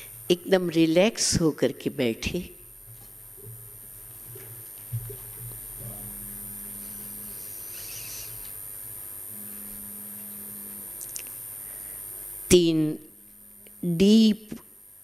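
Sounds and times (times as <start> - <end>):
electrical hum of sound system: 0.0 - 15.0
faint high whine: 0.0 - 15.0.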